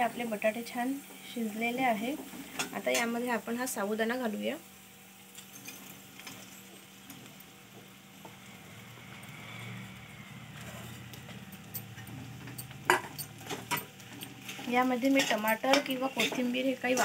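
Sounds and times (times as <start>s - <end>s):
faint sizzling: 0.0s - 17.0s.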